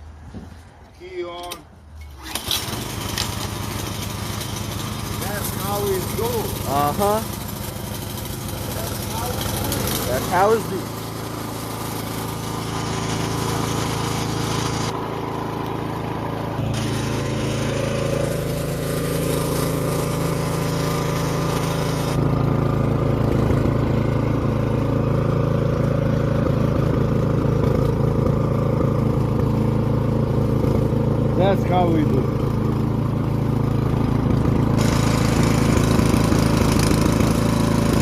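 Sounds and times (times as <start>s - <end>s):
snowblower engine running: 2.2s - 38.0s.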